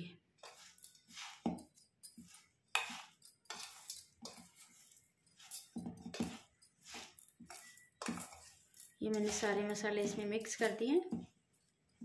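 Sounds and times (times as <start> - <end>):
metal spoon scraping bowl: 0.4 - 12.0.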